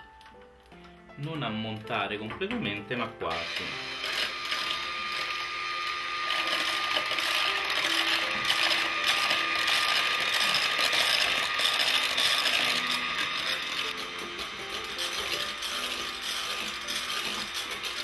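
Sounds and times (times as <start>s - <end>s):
electric blender whisk whirring: 3.2s - 18.0s.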